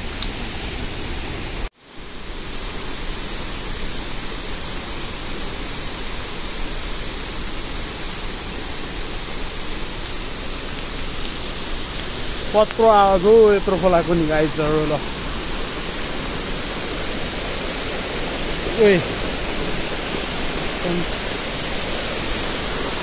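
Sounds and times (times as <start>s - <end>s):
fast river rushing: 0.0s - 23.0s.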